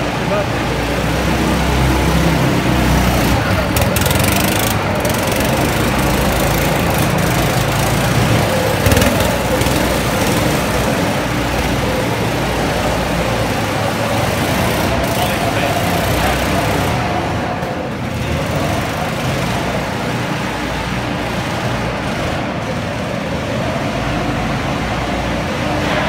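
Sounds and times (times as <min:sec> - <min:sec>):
go-kart engines droning: 0:00.0 - 0:26.0.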